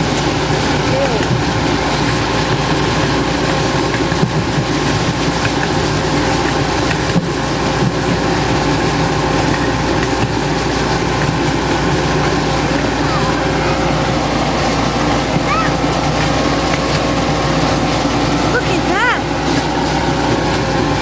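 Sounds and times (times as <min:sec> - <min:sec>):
ride train running on track: 0:00.0 - 0:21.0.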